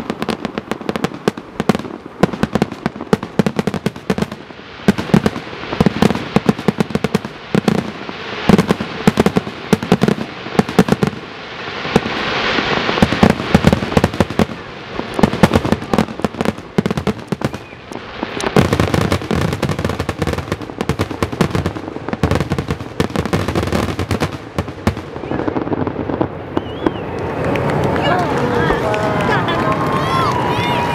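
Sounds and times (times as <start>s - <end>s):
deep firework booms: 0.0s - 30.9s
firework crackling: 0.0s - 30.9s.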